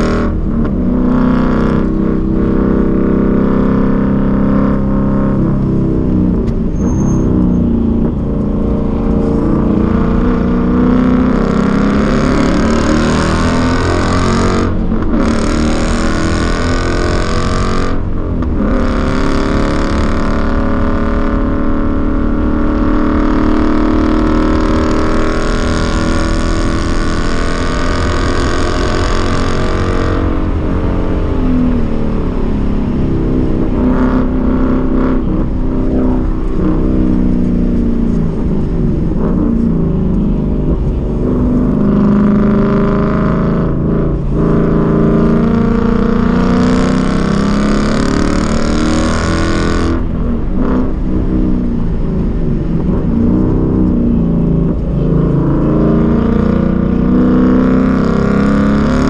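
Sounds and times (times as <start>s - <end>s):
car engine revving from cabin: 0.0s - 59.0s.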